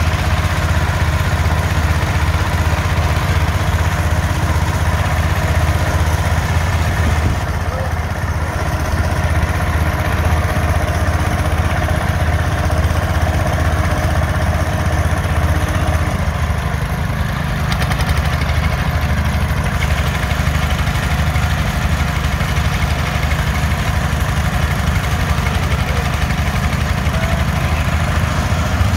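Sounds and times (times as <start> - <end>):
garden tractor engines under load: 0.0 - 28.9.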